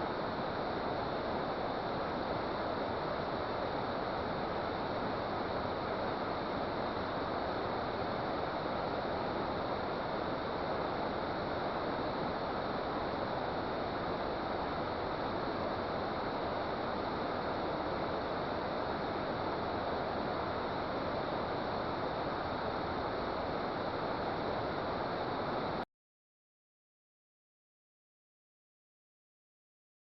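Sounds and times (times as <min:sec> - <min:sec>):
water rushing from a dam: 0:00.1 - 0:25.8.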